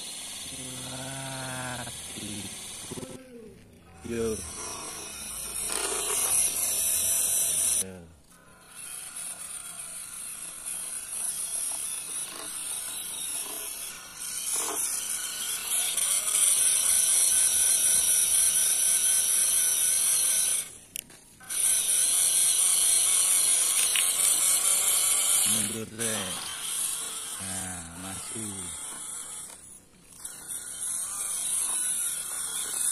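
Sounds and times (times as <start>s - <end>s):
toy electric motor whirring: 0.0s - 32.9s.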